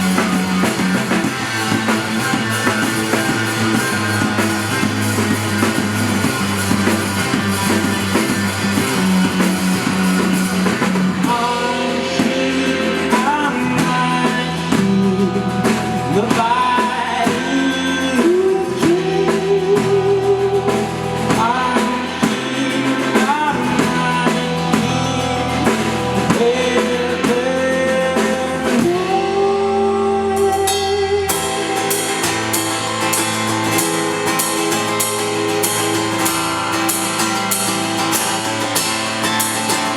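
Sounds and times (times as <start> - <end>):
lead vocal singing: 0.0 - 39.9
live rock band playing: 0.0 - 39.9.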